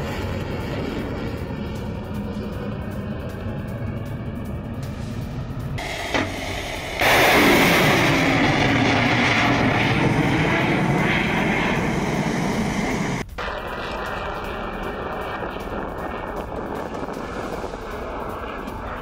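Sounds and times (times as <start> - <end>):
rocket motor rushing roar: 0.0 - 19.0.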